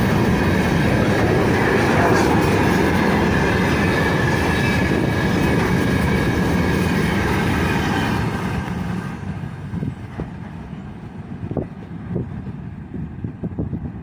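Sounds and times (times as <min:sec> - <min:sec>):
train wheels rumbling and clattering: 0:00.0 - 0:14.0.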